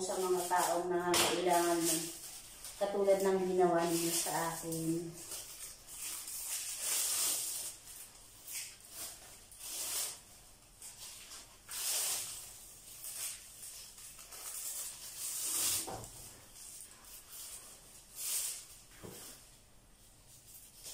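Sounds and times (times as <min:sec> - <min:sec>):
plastic strips rustling: 0:00.0 - 0:20.9.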